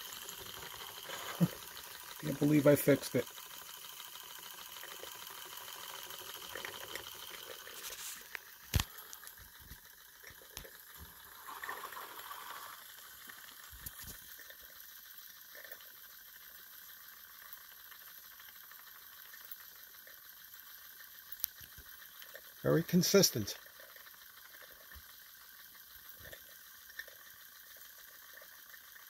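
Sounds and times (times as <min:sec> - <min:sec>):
light mechanical rattling: 0:00.0 - 0:29.0.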